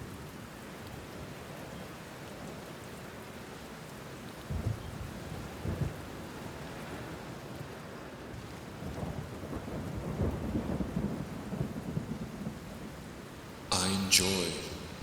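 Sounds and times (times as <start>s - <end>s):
steady rain: 0.0s - 14.9s.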